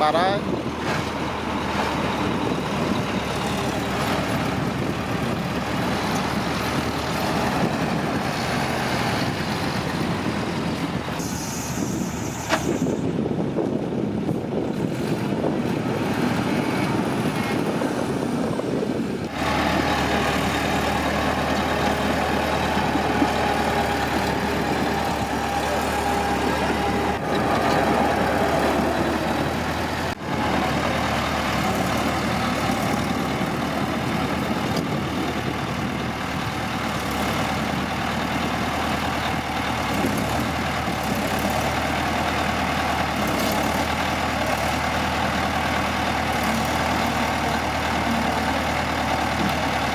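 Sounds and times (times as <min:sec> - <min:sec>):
heavy diesel machinery running: 0:00.0 - 0:49.9.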